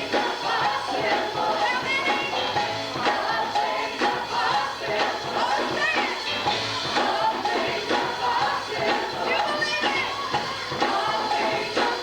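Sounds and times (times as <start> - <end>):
band playing steady beat: 0.0 - 12.0
voices singing together: 0.0 - 12.0.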